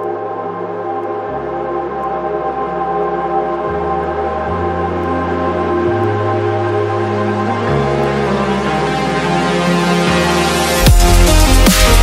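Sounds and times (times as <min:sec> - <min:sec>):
synth chord with deep bass: 0:00.0 - 0:12.0.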